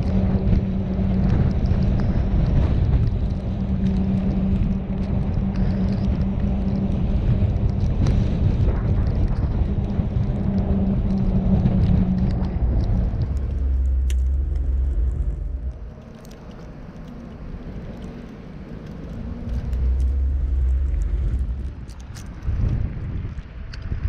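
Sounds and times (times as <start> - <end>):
car road and engine rumble: 0.0 - 24.0
constant hum: 0.0 - 24.0.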